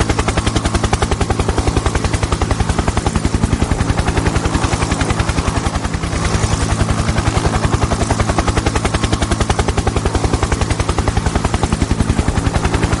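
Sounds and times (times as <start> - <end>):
helicopter engine hum: 0.0 - 13.0
helicopter rotor blades chopping: 0.0 - 13.0.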